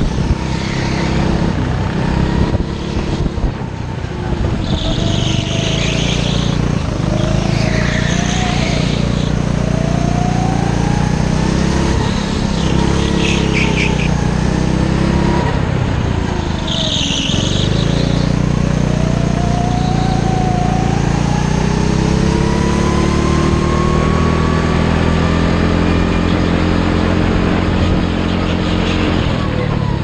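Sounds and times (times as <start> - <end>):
go-kart engine running hard: 0.0 - 30.0.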